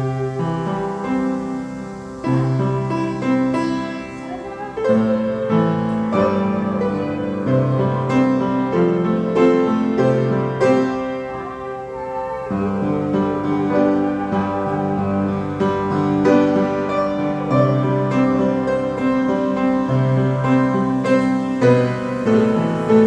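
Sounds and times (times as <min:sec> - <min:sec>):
piano playing slow melody: 0:00.0 - 0:23.0.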